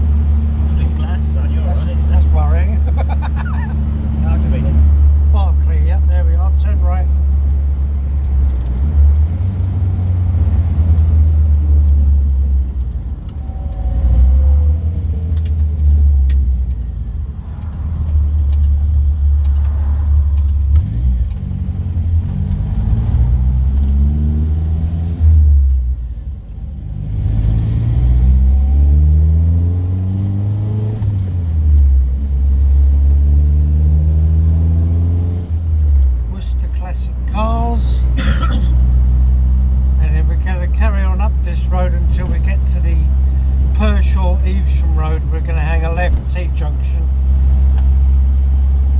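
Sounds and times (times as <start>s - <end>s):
car engine accelerating: 0.0s - 48.9s
road rumble: 0.0s - 48.9s.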